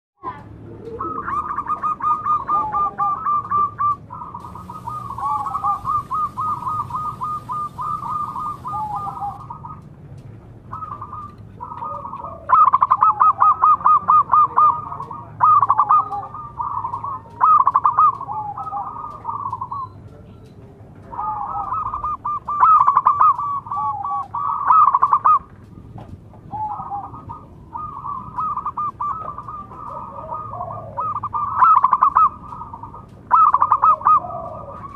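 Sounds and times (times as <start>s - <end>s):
doves cooing: 0.3s - 34.9s.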